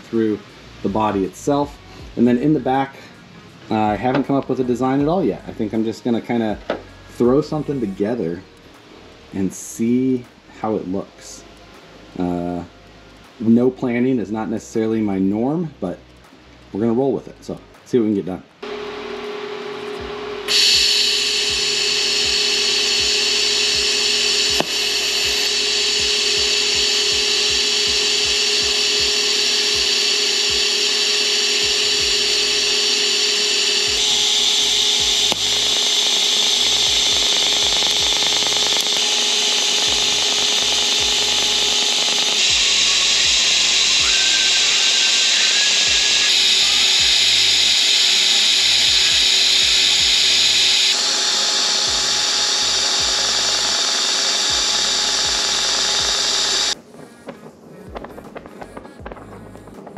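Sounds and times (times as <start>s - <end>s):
welding arc hissing buzz: 0.0s - 15.1s, 18.5s - 59.8s.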